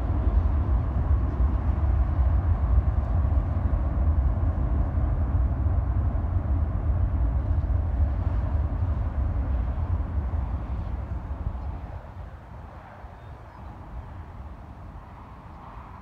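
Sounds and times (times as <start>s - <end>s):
distant jet engines roaring: 0.0s - 16.0s.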